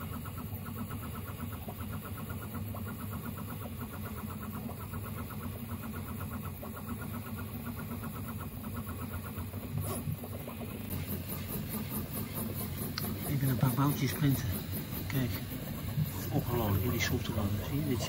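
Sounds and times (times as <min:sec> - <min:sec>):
steady low hum: 0:00.0 - 0:18.0
stepper motors chirping: 0:00.0 - 0:18.0.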